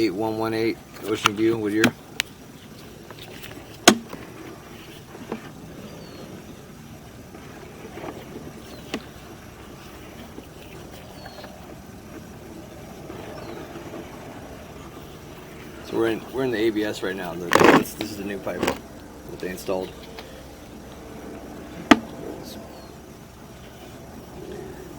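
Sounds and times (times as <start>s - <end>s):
steady low rumble: 0.0s - 24.9s.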